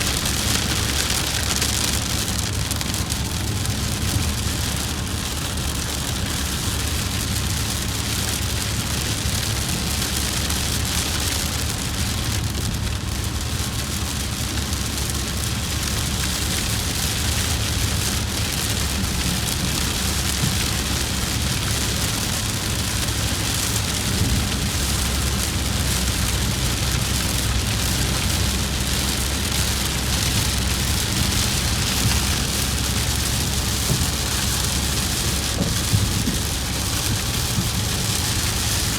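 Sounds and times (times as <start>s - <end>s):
rain on vehicle: 0.0s - 38.9s
road and engine rumble: 0.0s - 38.9s.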